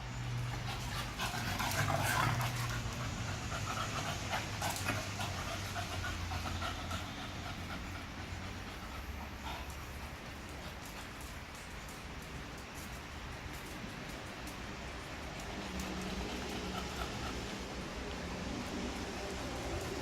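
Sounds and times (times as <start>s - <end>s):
dog panting: 0.2s - 11.7s, 15.4s - 20.0s.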